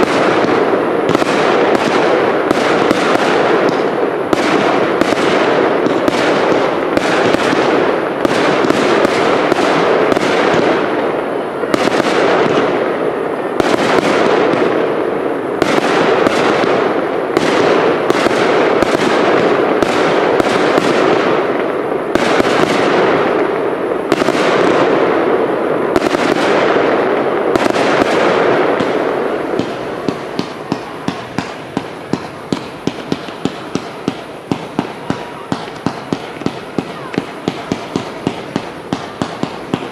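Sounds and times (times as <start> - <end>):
fireworks barrage crackling: 0.0 - 39.9.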